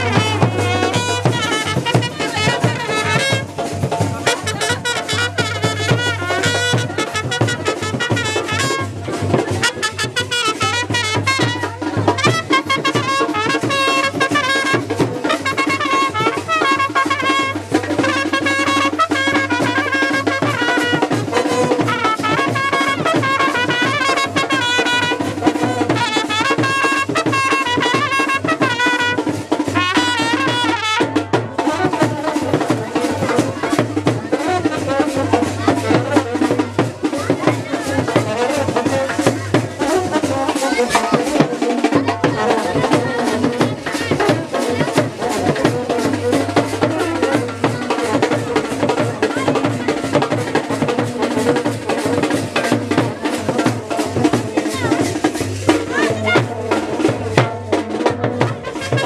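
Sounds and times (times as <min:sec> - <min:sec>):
trumpets playing a tune: 0:00.0 - 0:49.0, 0:50.6 - 0:59.0
drums beating: 0:00.0 - 0:59.0.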